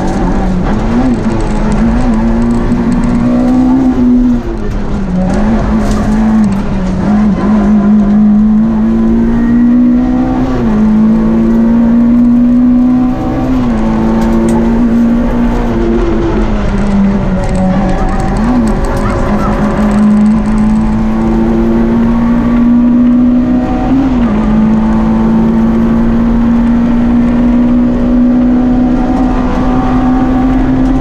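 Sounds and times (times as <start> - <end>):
rally car engine revving: 0.0 - 31.0
road and tyre noise: 0.0 - 31.0.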